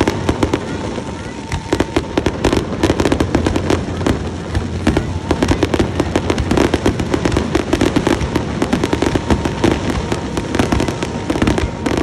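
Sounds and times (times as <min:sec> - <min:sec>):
fireworks crackling: 0:00.0 - 0:12.0
low rumble of bursts: 0:00.0 - 0:12.0.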